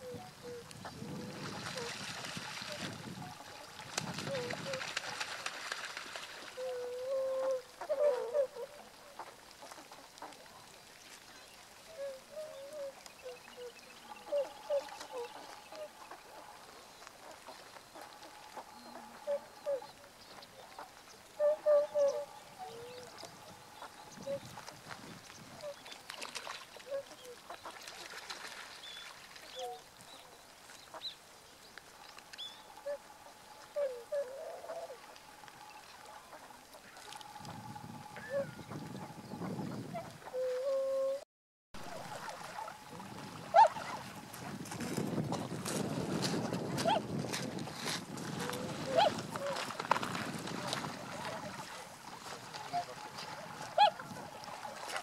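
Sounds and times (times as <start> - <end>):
swans calling: 0.0 - 29.9, 31.9 - 41.2, 41.8 - 44.8, 46.6 - 47.2, 48.3 - 55.0.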